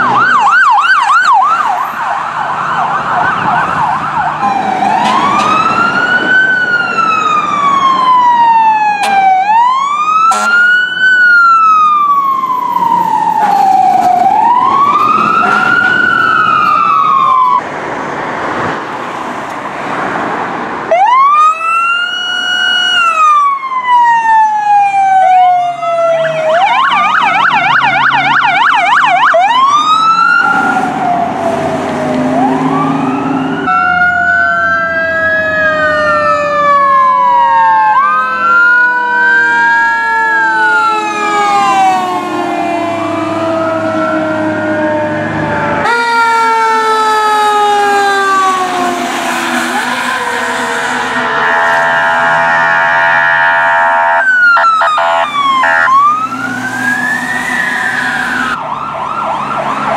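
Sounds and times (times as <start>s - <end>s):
fire truck siren wailing: 0.0s - 17.7s, 20.5s - 59.9s
engine and road noise: 0.0s - 59.9s.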